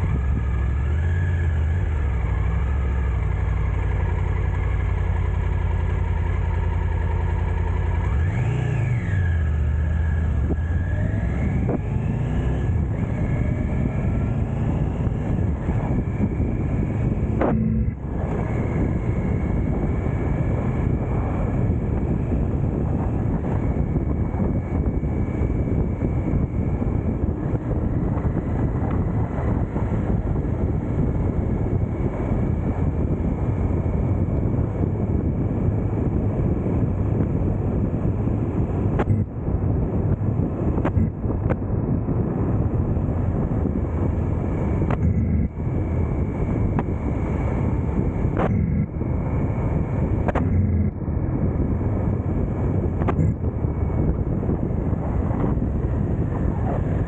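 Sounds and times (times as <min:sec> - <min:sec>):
motorcycle engine and road rumble: 0:00.0 - 0:57.0
wind on microphone: 0:06.4 - 0:57.0.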